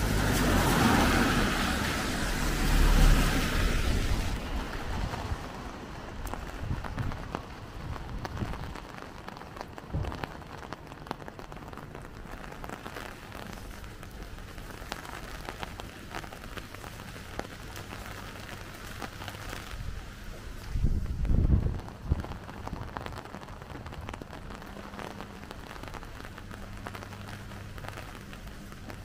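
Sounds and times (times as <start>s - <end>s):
heavy rain on hard surfaces: 0.0s - 29.0s.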